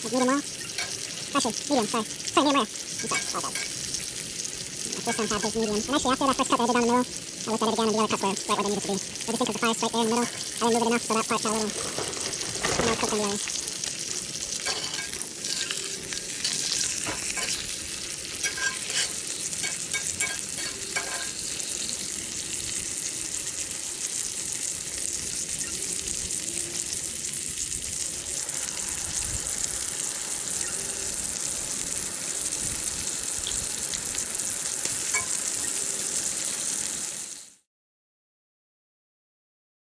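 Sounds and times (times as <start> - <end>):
steak sizzling over campfire: 0.0 - 37.7.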